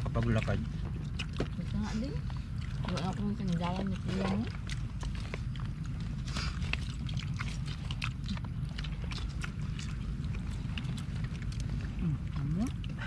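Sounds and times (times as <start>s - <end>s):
light eating clicks: 0.0s - 13.0s
steady low rumble: 0.0s - 13.0s.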